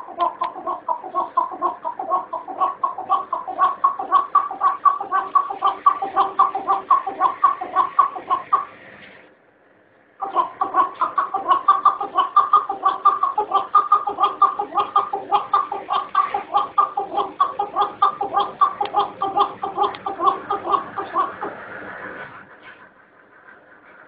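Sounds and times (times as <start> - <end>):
partridge calling rapid chuk notes: 0.0 - 8.7, 10.2 - 21.5.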